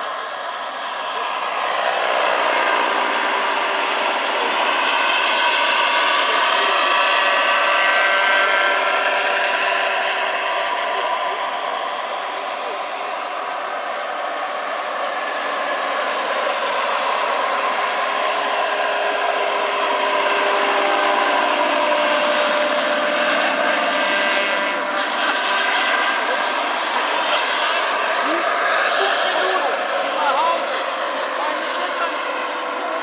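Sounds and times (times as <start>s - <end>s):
model helicopter turbine whine: 0.0s - 33.0s.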